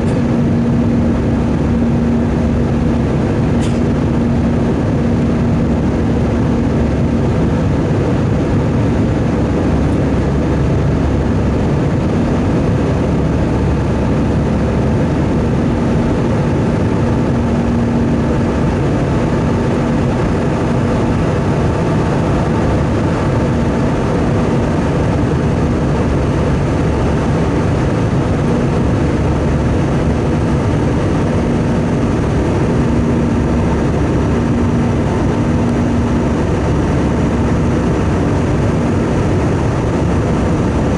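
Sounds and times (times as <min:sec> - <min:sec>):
airliner cabin engine noise: 0:00.0 - 0:40.9
low hum: 0:00.0 - 0:40.9.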